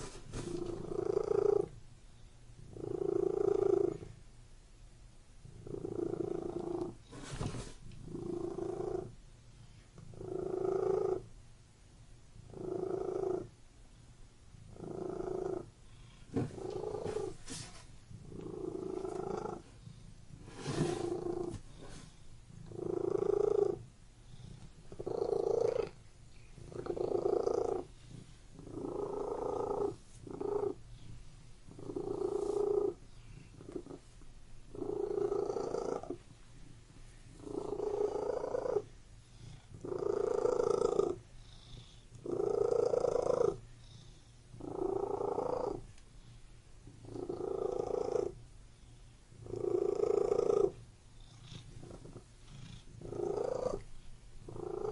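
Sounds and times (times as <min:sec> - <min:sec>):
cat purring: 0:00.0 - 0:01.8, 0:02.6 - 0:04.2, 0:05.4 - 0:11.4, 0:12.4 - 0:13.6, 0:14.5 - 0:54.9.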